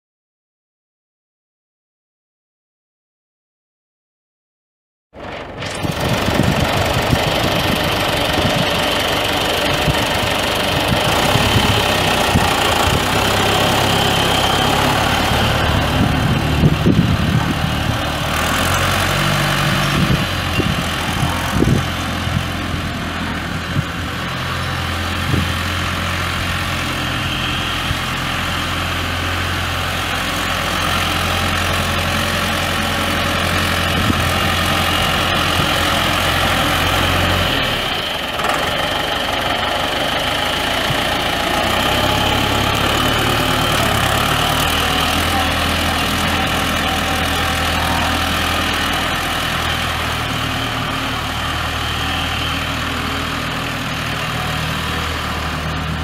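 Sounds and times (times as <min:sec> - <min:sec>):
tractor diesel engine running: 0:05.2 - 0:56.0.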